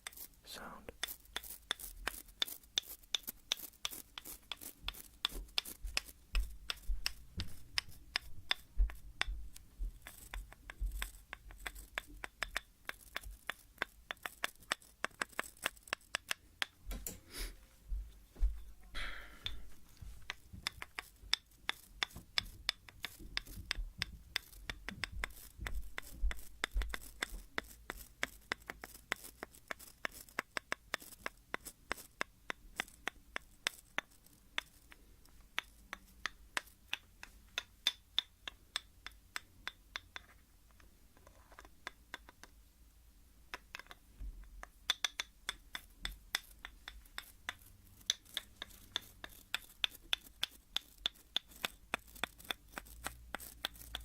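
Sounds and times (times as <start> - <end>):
hairbrush clicking on comb teeth: 0.0 - 17.2, 20.3 - 39.8, 44.9 - 54.0.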